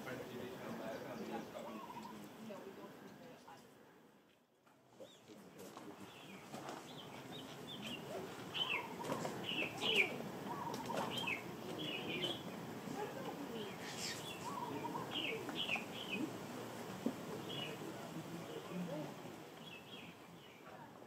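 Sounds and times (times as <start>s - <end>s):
songbird chirping: 0.0s - 3.5s, 4.9s - 21.0s
low background murmur: 0.0s - 21.0s.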